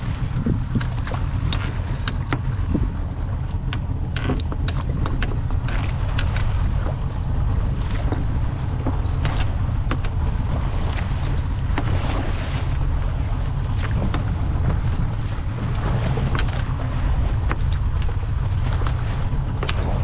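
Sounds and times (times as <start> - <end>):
boat engine low rumble: 0.0 - 20.0
wind buffeting microphone: 0.0 - 20.0.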